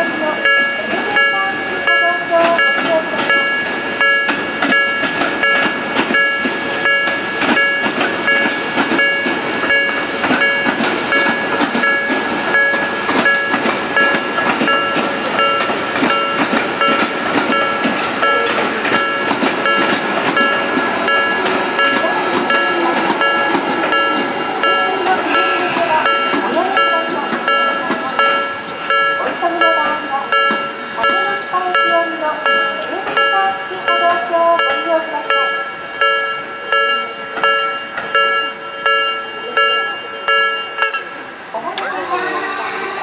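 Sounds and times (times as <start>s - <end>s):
crossing warning bell ringing: 0.0s - 42.7s
train wheels clacking over rail joints: 0.5s - 42.0s.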